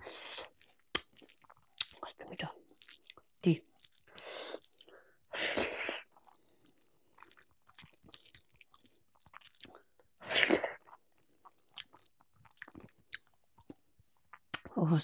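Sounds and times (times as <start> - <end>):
person chewing food: 0.0 - 14.7.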